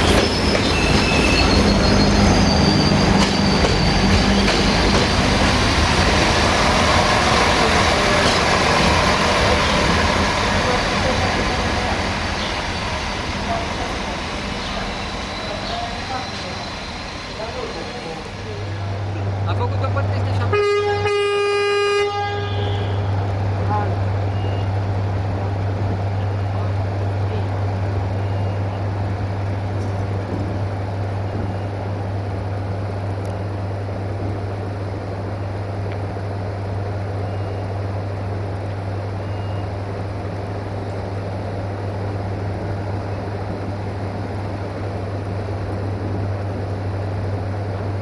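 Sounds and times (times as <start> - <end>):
locomotive running: 0.0 - 48.0.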